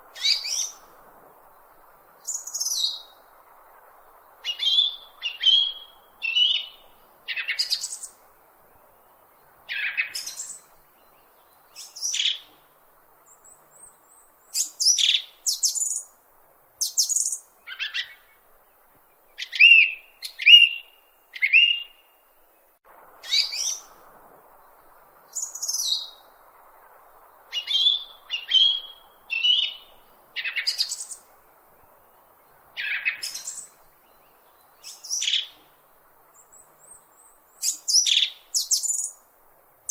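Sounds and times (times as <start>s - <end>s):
small birds chirping: 0.0s - 16.2s, 16.8s - 39.9s.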